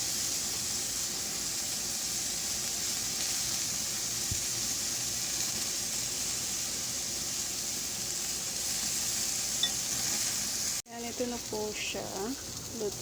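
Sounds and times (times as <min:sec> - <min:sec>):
skewers sizzling on a grill: 0:00.0 - 0:13.0.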